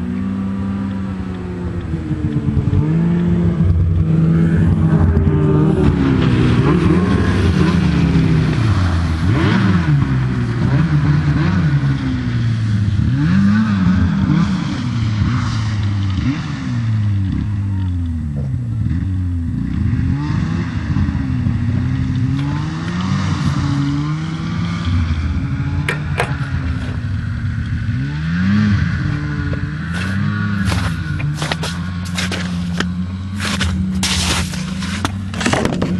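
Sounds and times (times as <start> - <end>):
engine revving: 0.0 - 35.9.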